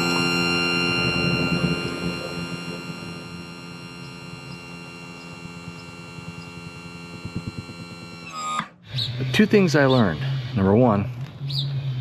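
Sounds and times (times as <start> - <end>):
power sander on metal: 0.0 - 10.9.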